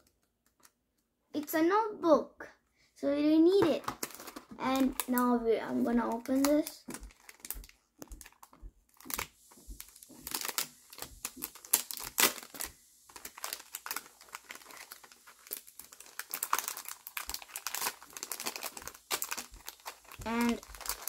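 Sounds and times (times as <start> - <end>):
plastic wrapping crinkling: 3.6 - 21.0.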